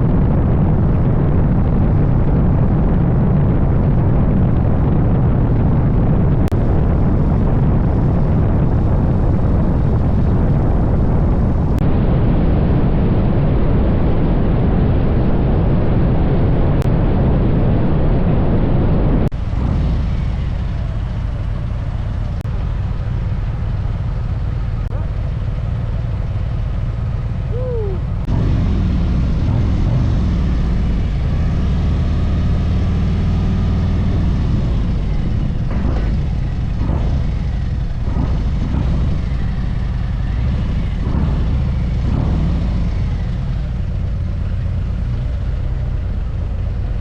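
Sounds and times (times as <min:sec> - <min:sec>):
motorcycle road noise: 0:00.0 - 0:47.0
wind rumble on microphone: 0:00.0 - 0:47.0.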